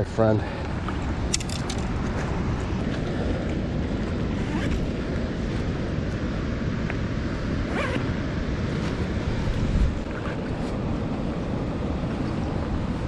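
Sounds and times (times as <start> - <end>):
wind buffeting microphone: 0.0 - 13.0
river water rushing: 0.4 - 13.0.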